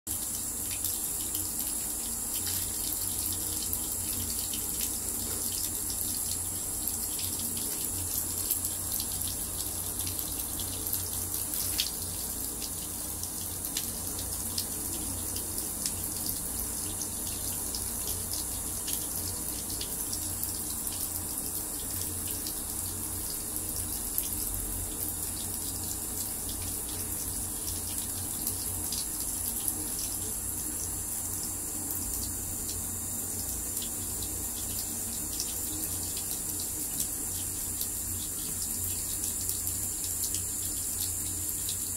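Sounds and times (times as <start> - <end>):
water running from a tap: 0.1 - 41.9.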